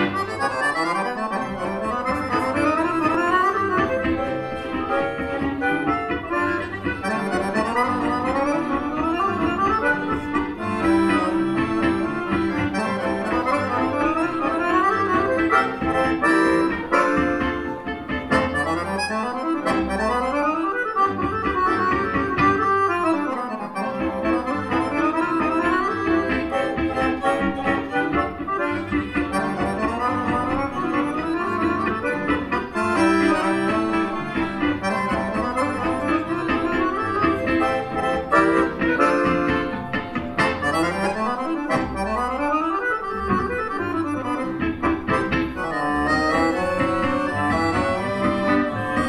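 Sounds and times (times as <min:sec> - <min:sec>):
button accordion: 0:00.0 - 0:49.0
double bass: 0:00.0 - 0:49.0
piano: 0:00.0 - 0:49.0
violins: 0:00.0 - 0:49.0.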